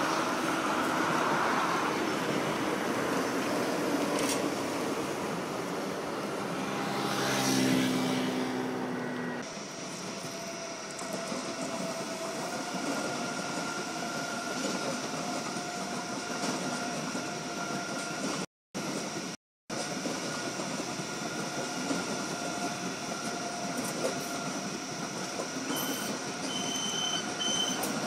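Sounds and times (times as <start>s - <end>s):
electric train humming past: 0.0s - 28.0s
train wheels on rails: 0.0s - 28.0s.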